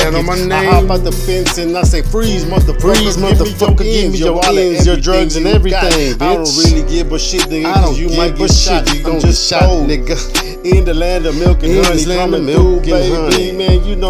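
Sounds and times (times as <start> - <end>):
deep kick drums: 0.0 - 7.1, 7.8 - 10.1, 10.7 - 11.9, 12.6 - 14.0
hip hop beat: 0.0 - 14.0
person rapping: 0.0 - 14.0.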